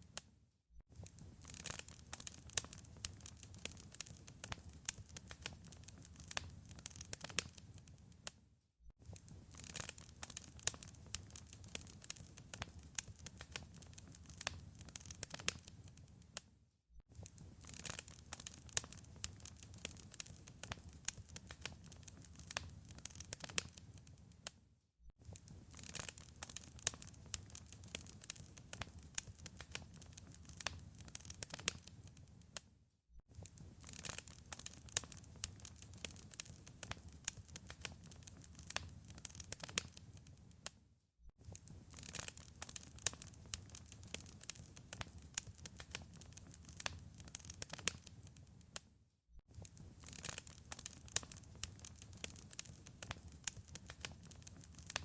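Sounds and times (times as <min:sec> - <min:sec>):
wood fire crackling and popping: 0:01.0 - 0:08.2, 0:09.0 - 0:16.4, 0:17.1 - 0:24.6, 0:25.3 - 0:32.6, 0:33.3 - 0:40.7, 0:41.4 - 0:48.8, 0:49.5 - 0:55.0.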